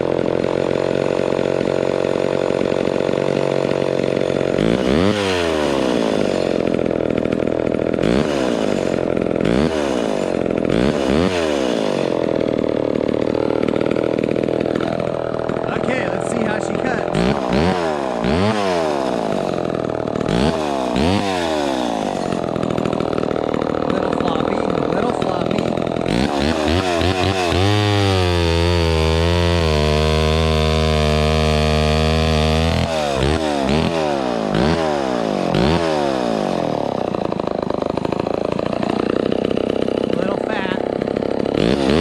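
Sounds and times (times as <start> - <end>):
chainsaw engine revving: 0.0 - 42.0.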